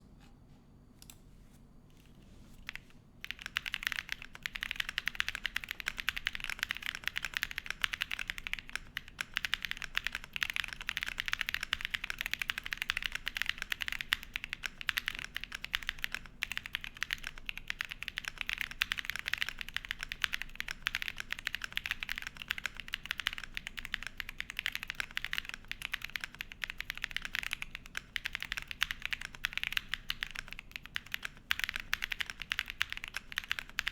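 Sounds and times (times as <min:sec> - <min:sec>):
mechanical keyboard typing: 0:02.6 - 0:33.9.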